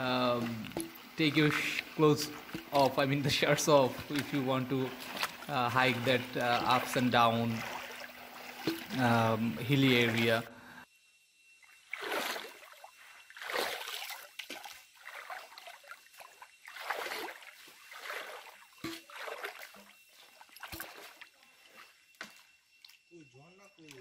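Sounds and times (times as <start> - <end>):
stream water splashing: 0.0 - 10.5, 11.8 - 23.1.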